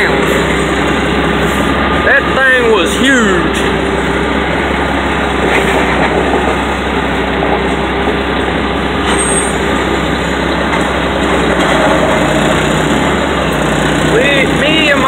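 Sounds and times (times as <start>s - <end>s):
heavy machinery engines running: 0.0s - 15.0s.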